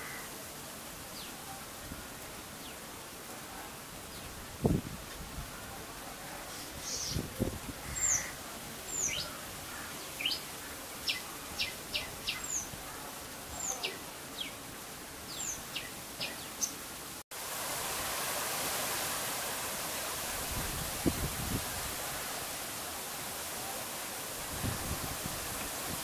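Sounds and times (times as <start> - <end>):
rain hiss: 0.0 - 26.0.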